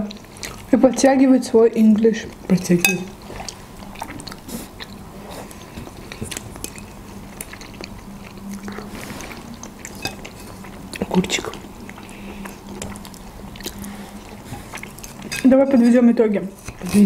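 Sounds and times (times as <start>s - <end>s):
people chewing: 0.0s - 17.0s.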